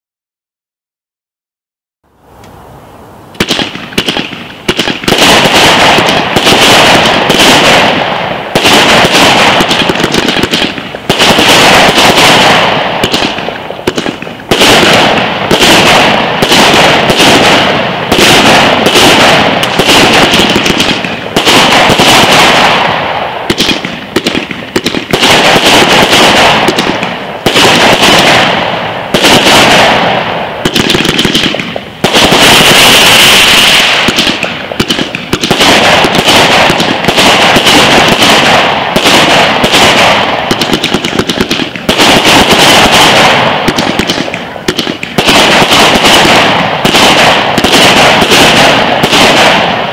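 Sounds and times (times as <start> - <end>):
firework shots and crackling: 3.3 - 49.9.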